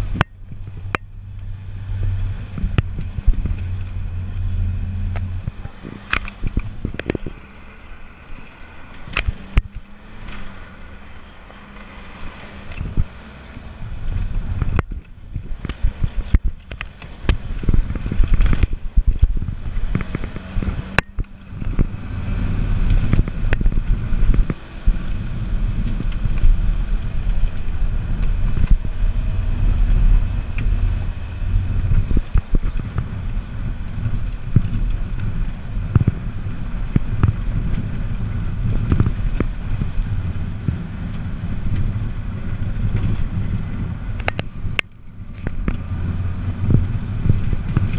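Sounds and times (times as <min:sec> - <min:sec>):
truck engine rumble: 0:00.0 - 0:47.9
body rattles and knocks: 0:02.1 - 0:47.9.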